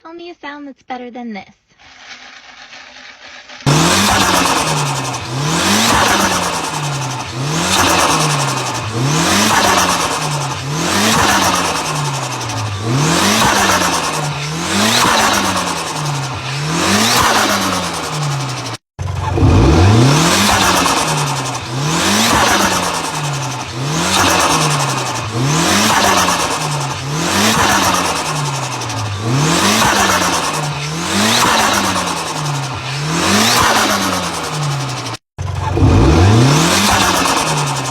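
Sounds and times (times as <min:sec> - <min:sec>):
turbocharged engine revving: 0:03.6 - 0:37.9.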